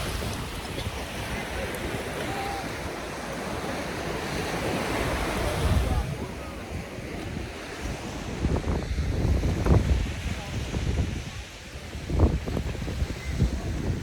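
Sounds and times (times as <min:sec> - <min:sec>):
sea water lapping at shore: 0:00.0 - 0:14.0
wind buffeting microphone: 0:00.0 - 0:14.0.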